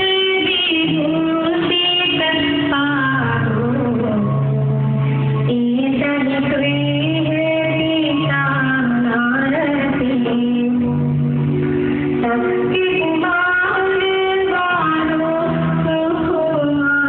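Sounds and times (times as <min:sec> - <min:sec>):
song with singing: 0:00.0 - 0:17.0
steady bass line: 0:00.0 - 0:17.0.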